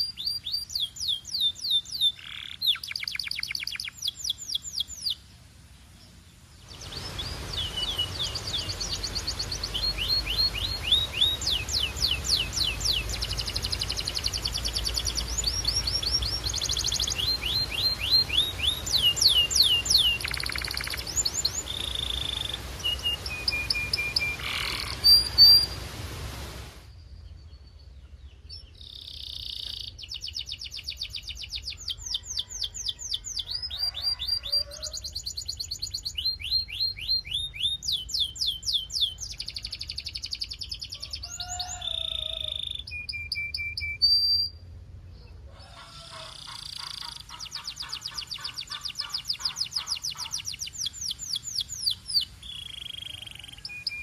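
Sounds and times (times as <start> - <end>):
canary singing: 0.0 - 5.2, 6.8 - 25.8, 28.6 - 44.7, 45.8 - 54.0.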